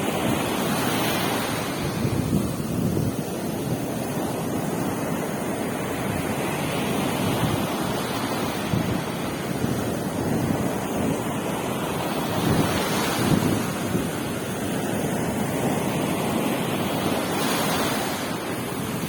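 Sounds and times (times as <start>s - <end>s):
waves washing onto beach: 0.0s - 19.0s
wind buffeting microphone: 0.0s - 19.0s.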